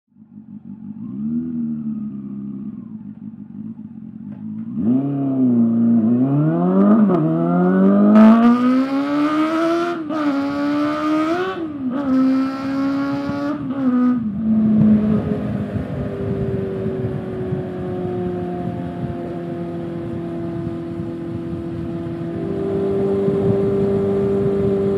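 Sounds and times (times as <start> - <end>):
motorcycle engine revving through gears: 0.1 - 24.9.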